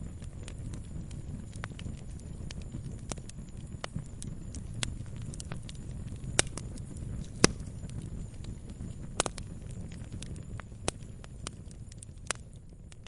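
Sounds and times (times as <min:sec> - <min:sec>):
campfire crackling and popping: 0:00.0 - 0:13.0
low rumble of burning fire: 0:00.0 - 0:13.0.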